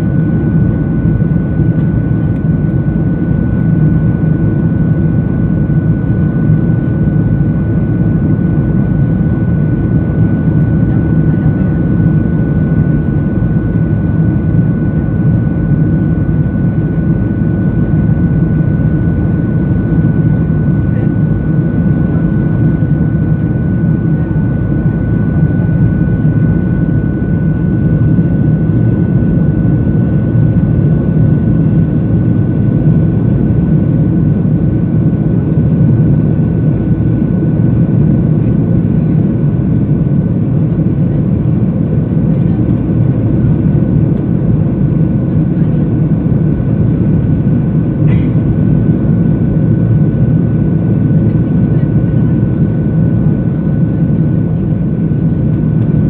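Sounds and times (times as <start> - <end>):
engine and airflow rumble: 0.0 - 56.0.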